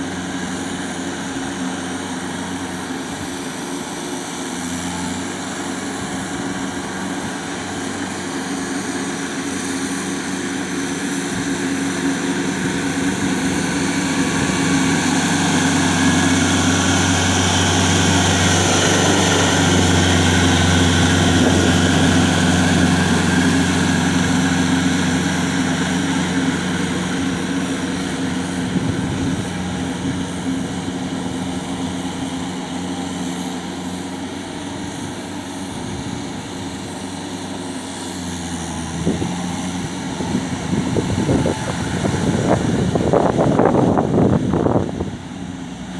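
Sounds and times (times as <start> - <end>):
tractor diesel engine drone: 0.0 - 45.9.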